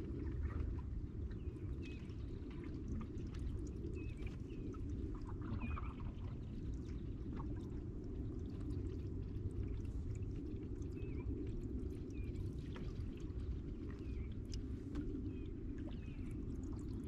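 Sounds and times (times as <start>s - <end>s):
water lapping at hull: 0.0s - 17.0s.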